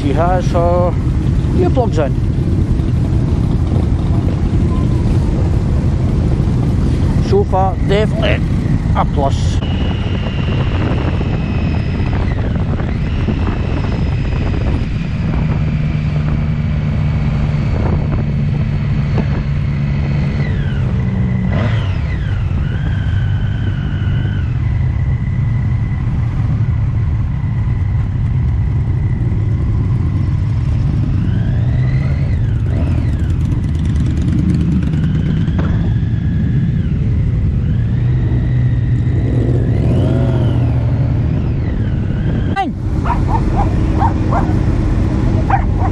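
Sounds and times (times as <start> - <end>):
motorbikes revving: 0.0 - 45.9
motorcycle engine running: 0.0 - 45.9.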